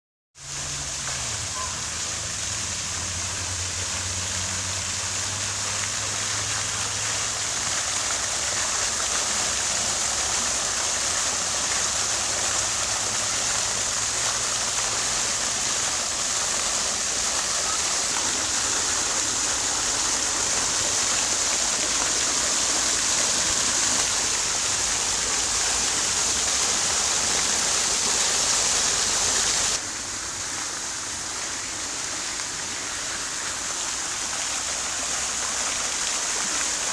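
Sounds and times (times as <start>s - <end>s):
fountain water splashing: 0.4s - 36.9s.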